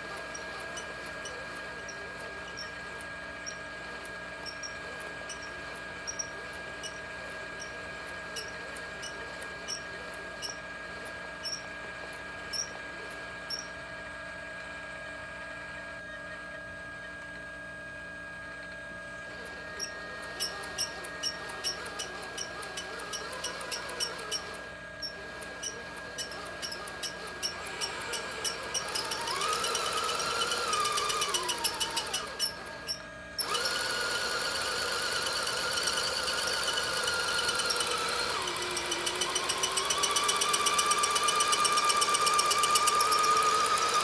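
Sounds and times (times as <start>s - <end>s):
electric motors whining: 0.0s - 44.0s
short squeaky ticks: 0.1s - 13.8s, 18.6s - 44.0s.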